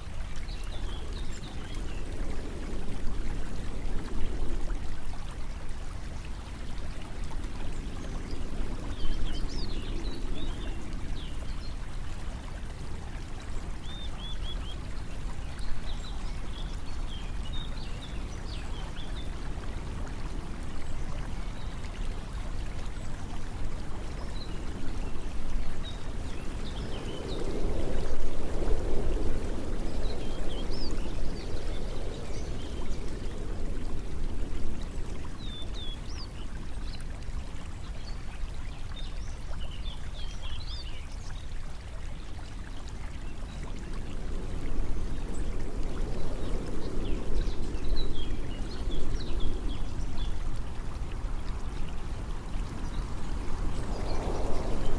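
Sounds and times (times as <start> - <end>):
flowing water: 0.0 - 54.9.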